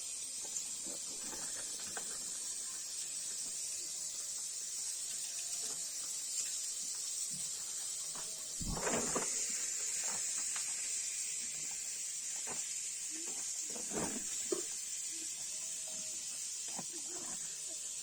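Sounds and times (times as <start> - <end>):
high-pitched hiss: 0.0 - 18.0.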